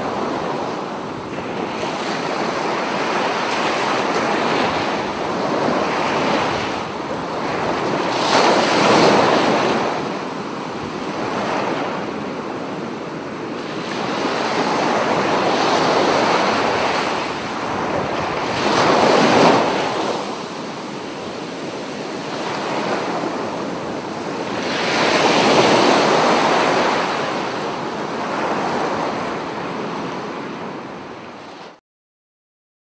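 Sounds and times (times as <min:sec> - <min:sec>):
waves breaking on beach: 0:00.0 - 0:31.8.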